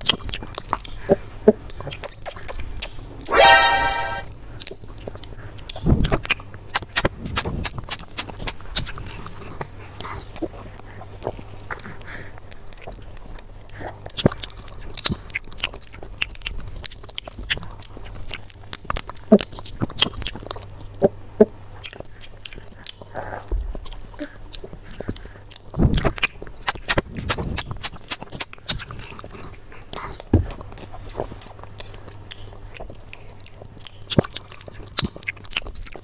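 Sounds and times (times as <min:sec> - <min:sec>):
crunchy chewing and biting: 0:00.0 - 0:03.8, 0:04.6 - 0:36.0.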